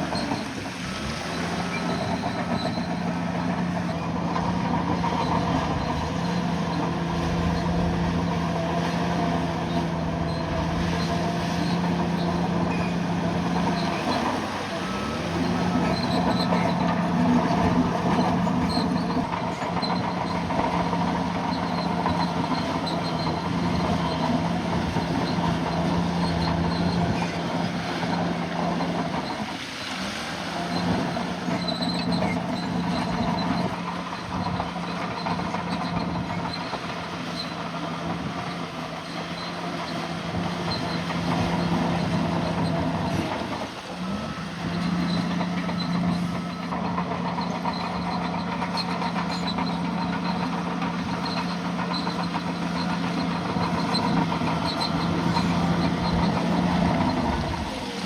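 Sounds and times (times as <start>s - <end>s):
diesel engine under load: 0.0s - 58.0s
steel tracks clattering and squealing: 0.0s - 58.0s.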